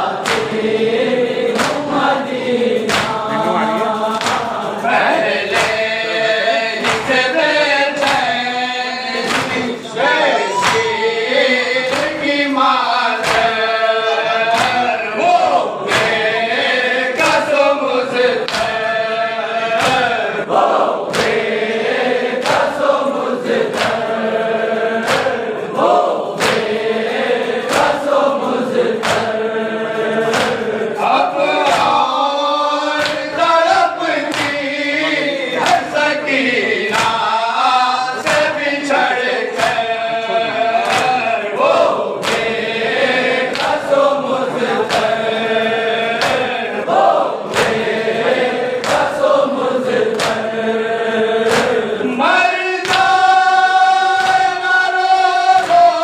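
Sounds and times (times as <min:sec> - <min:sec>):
lead reciter singing: 0:00.0 - 0:56.0
men chanting a lament: 0:00.0 - 0:56.0.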